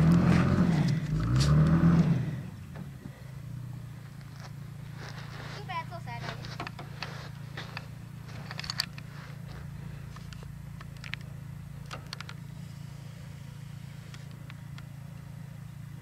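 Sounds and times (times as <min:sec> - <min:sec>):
pickup engine humming: 0:00.0 - 0:16.0.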